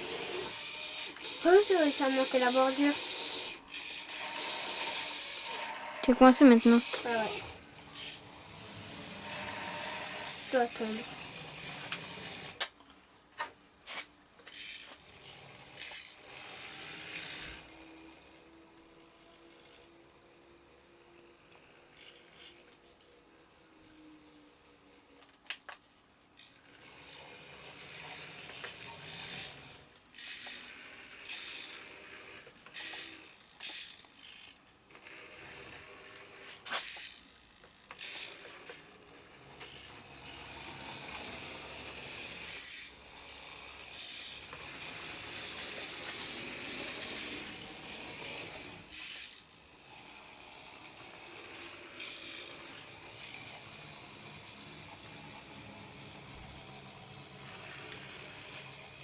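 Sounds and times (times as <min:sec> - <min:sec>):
small electric motors whirring: 0:00.0 - 0:12.7, 0:14.4 - 0:59.0.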